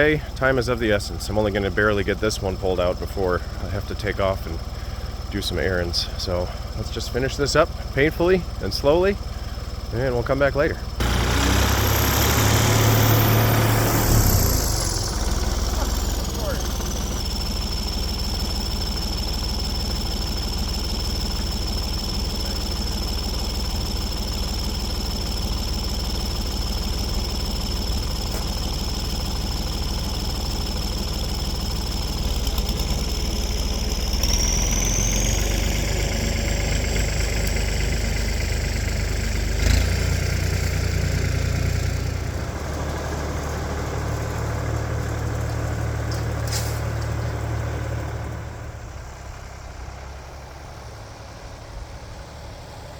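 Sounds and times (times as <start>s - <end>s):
tractor engine whining under load: 0.0s - 52.9s.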